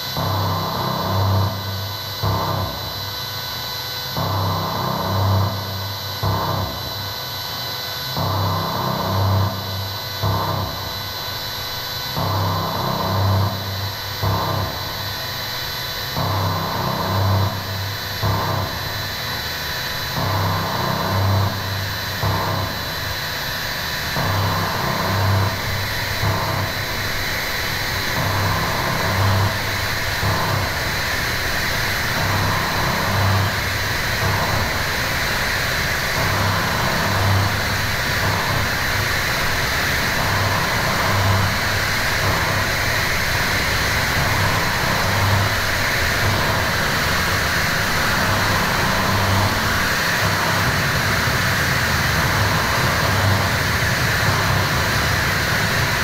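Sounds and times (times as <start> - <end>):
distorted electronic hiss and drone: 0.0 - 56.0
low throbbing pulse: 0.0 - 56.0.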